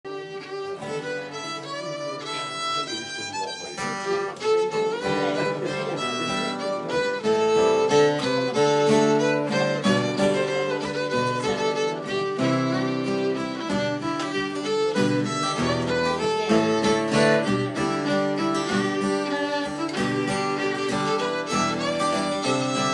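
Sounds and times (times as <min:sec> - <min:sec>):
fiddle playing lively folk tune: 0:00.0 - 0:22.9
acoustic guitar accompaniment: 0:00.1 - 0:22.9.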